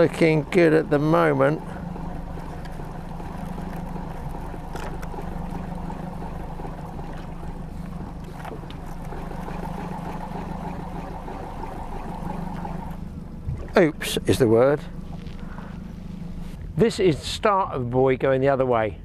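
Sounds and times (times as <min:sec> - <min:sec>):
outboard motor idling: 0:00.0 - 0:16.6.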